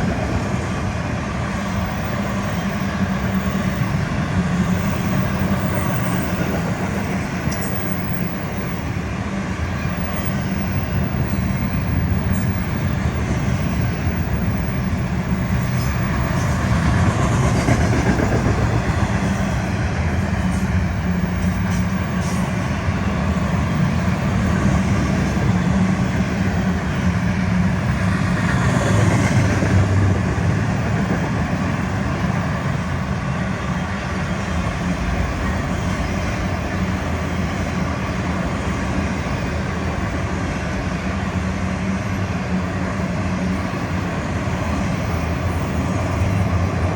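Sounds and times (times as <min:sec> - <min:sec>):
steel wheels on rails: 0:00.0 - 0:46.9.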